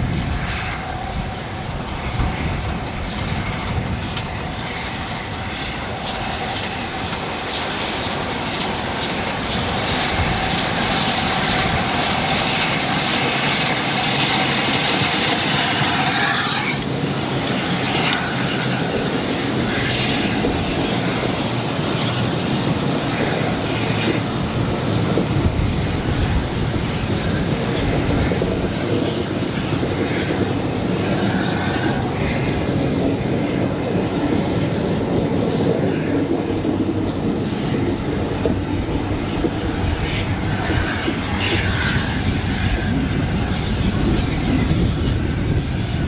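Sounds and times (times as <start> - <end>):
steam locomotive exhaust beats: 0.0 - 46.0
train wheels clacking over rails: 0.0 - 46.0.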